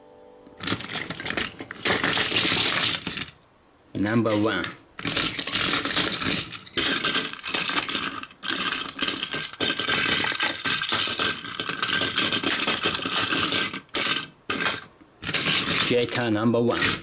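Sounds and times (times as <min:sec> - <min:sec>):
plastic toy trains rattling: 0:00.6 - 0:03.4, 0:04.0 - 0:17.0.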